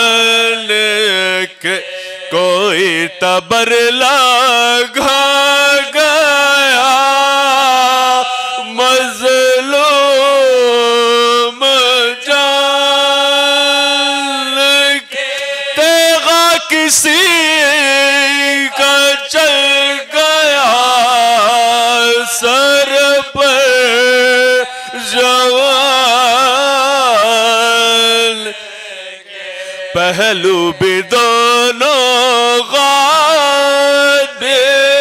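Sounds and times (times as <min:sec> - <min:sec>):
chorus of men singing: 0:00.0 - 0:35.0
man reciting a lament: 0:00.0 - 0:35.0.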